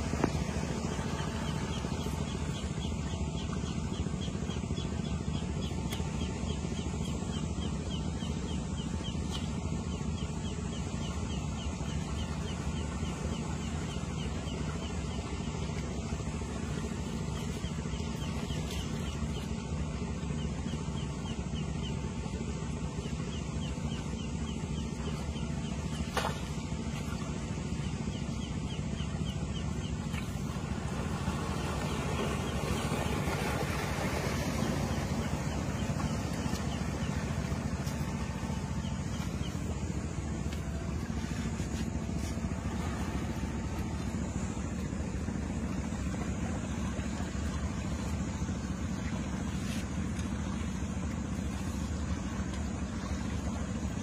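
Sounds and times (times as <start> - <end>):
low motor drone: 0.0 - 54.0.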